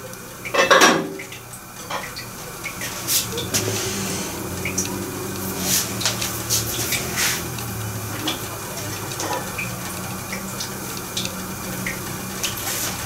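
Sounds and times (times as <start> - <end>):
gas burner hum: 0.0 - 13.0
kettle ticks and crackles: 0.0 - 13.0
water rushing in kettle: 0.0 - 13.0.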